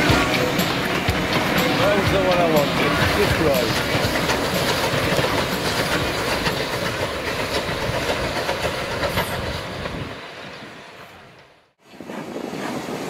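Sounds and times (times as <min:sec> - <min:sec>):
wheels clicking over rail joints: 0:00.0 - 0:10.7
steam locomotive rolling past: 0:00.0 - 0:13.0.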